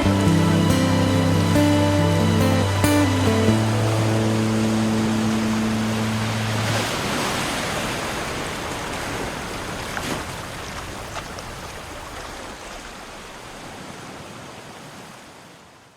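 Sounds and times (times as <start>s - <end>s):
ocean waves washing in: 0.0s - 15.8s.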